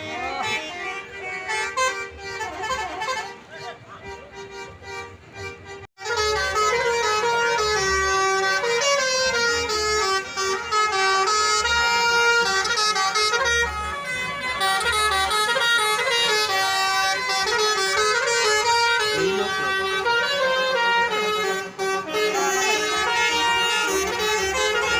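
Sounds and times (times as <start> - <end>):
multi-tone musical horn tune: 0.0 - 24.9.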